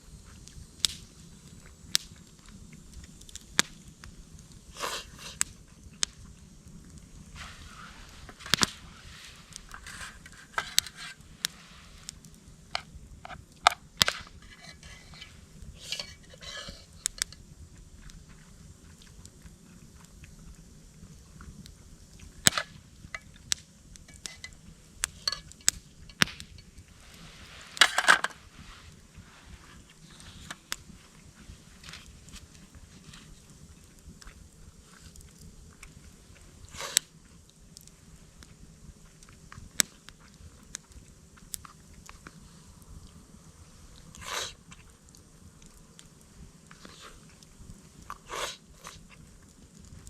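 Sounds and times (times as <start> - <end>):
crunching rustle: 0.2 - 50.0.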